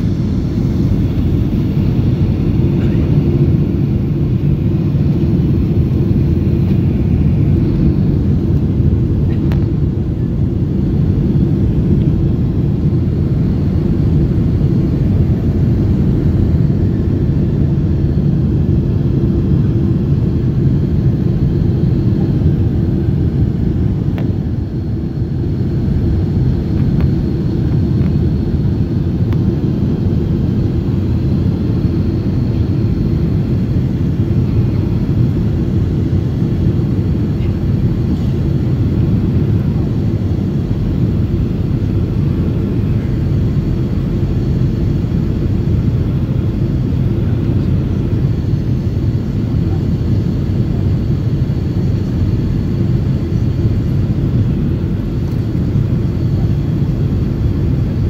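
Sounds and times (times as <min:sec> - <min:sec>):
airflow rush and engine drone: 0:00.0 - 0:58.0.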